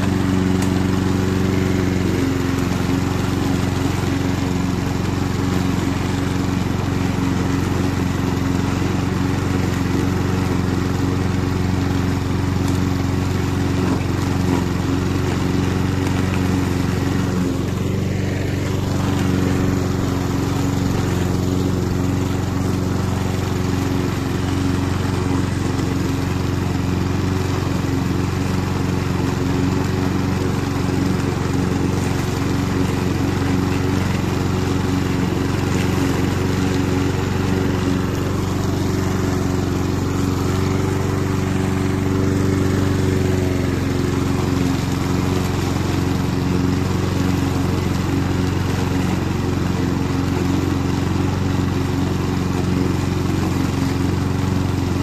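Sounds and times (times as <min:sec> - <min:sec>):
lawn mower engine droning: 0:00.0 - 0:55.0.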